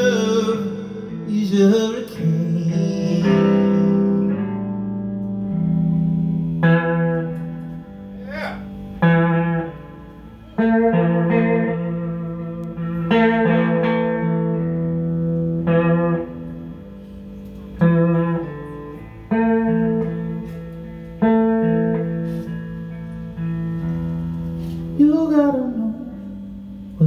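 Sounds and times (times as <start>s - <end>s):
guitar chords ringing: 0.0s - 27.0s.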